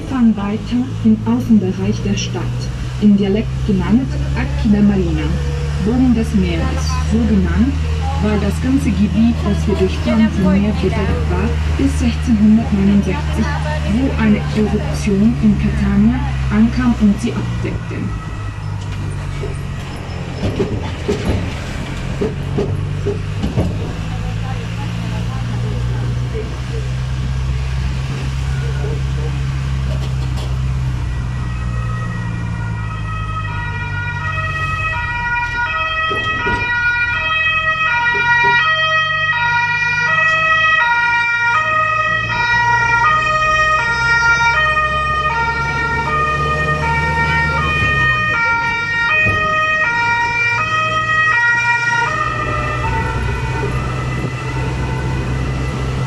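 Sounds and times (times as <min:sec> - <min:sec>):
two-tone emergency siren: 0:00.0 - 0:30.0, 0:30.6 - 0:56.0
bus engine running low: 0:00.0 - 0:56.0.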